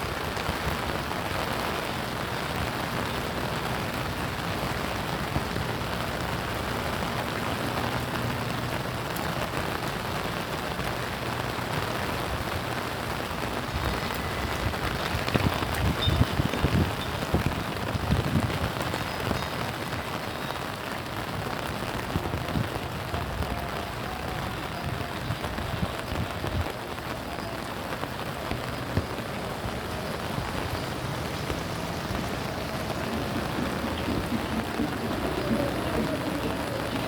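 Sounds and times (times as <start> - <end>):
rain pattering on surfaces: 0.0 - 37.0.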